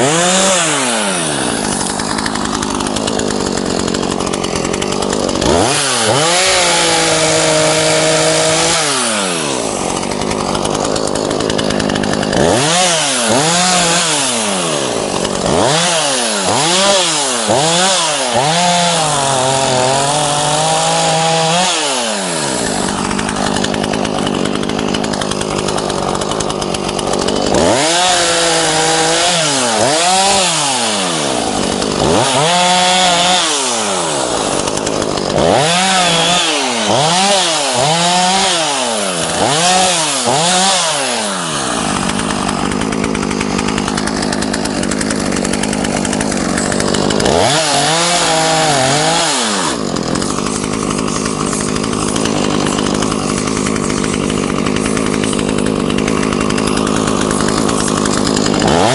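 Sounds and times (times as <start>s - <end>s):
chainsaw idling and revving: 0.0s - 58.9s.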